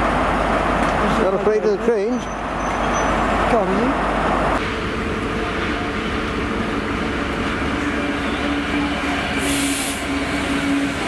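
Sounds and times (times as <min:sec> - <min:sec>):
diesel locomotive engine: 0:00.0 - 0:11.0
train wheels on rails: 0:00.0 - 0:11.0.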